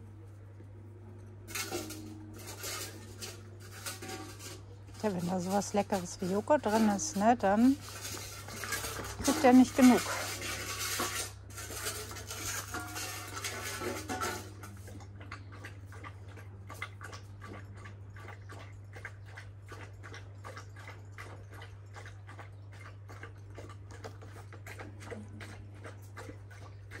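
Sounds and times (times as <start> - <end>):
dogs lapping and chewing: 0.0 - 27.0.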